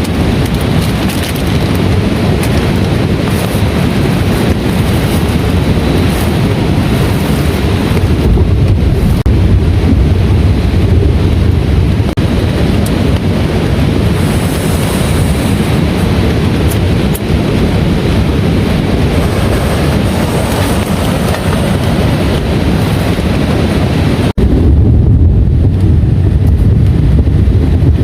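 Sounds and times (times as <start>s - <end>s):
heavy rain downpour: 0.0s - 28.0s
wind: 0.0s - 28.0s.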